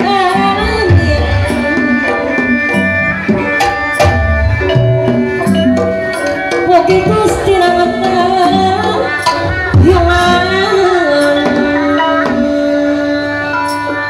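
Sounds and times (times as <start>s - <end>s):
sustained sliding melody: 0.3s - 14.0s.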